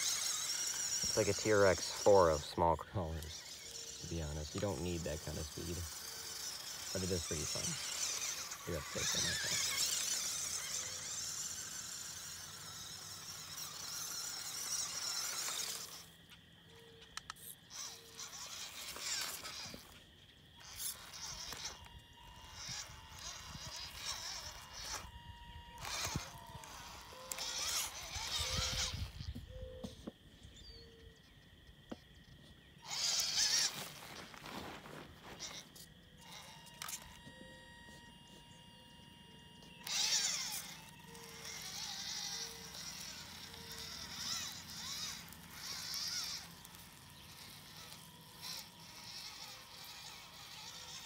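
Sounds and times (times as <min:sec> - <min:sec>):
small electric motor whining: 0:00.0 - 0:51.0.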